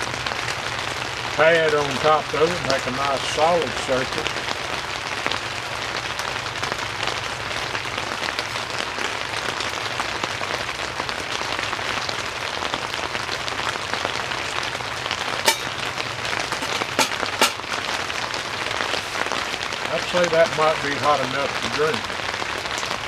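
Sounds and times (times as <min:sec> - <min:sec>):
rain on a tent roof: 0:00.0 - 0:23.0.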